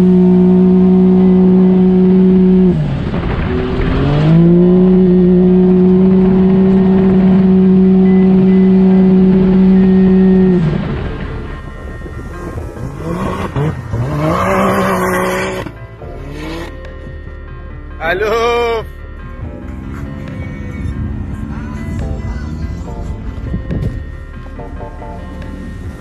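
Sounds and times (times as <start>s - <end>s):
utv engine revving: 0.0s - 17.4s, 19.4s - 26.0s.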